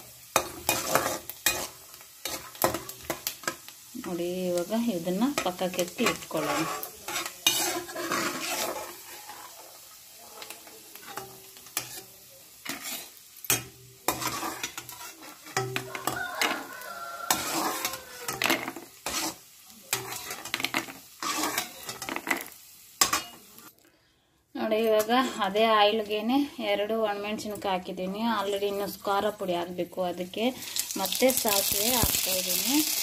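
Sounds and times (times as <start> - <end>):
spatula scraping in a wok: 0.0 - 23.7, 25.0 - 29.5
oil sizzling: 0.0 - 23.8, 24.6 - 33.0.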